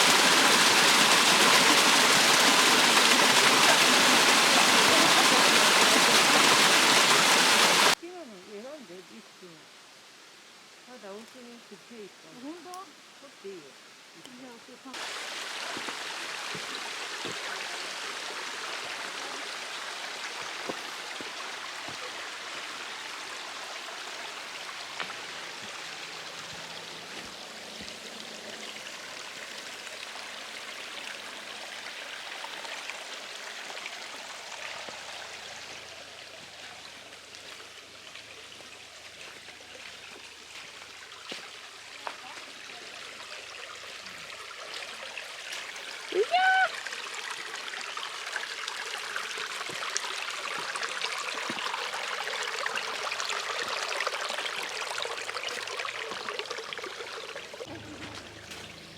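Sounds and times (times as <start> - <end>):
stream babbling: 0.0 - 58.9.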